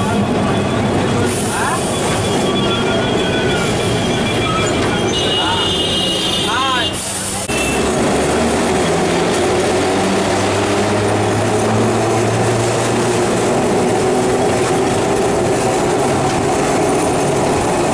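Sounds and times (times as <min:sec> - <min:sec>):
tram wheels rumbling on rails: 0:00.0 - 0:17.9.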